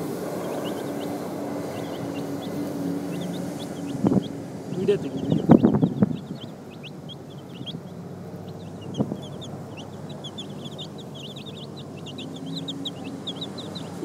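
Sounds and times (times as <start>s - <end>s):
chicks peeping: 0.0s - 14.0s
low background hum: 0.0s - 14.0s.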